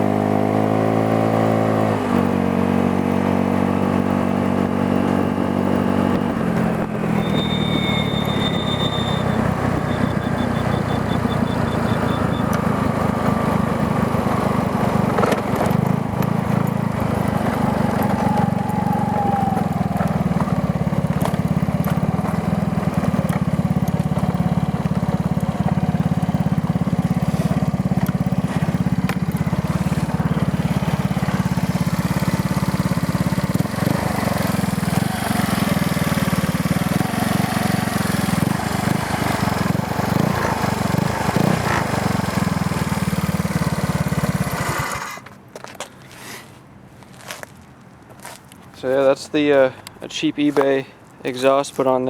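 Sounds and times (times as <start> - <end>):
scooter engine running: 0.0 - 45.4.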